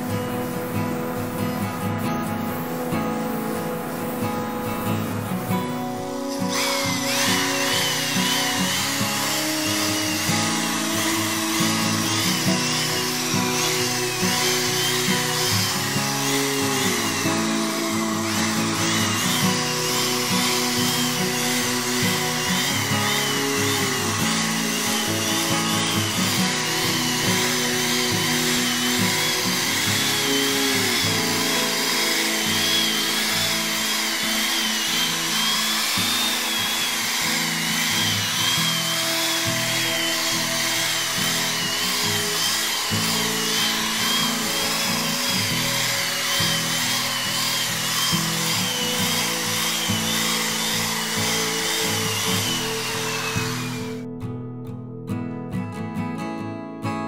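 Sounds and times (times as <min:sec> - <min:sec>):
machine polisher whine: 0:00.0 - 0:54.2
background music: 0:00.0 - 0:57.0.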